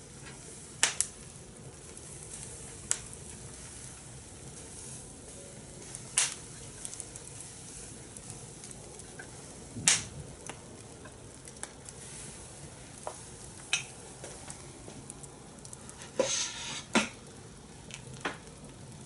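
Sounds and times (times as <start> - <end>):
corn sizzling over fire: 0.0 - 19.0
fire crackling pops: 0.0 - 19.0.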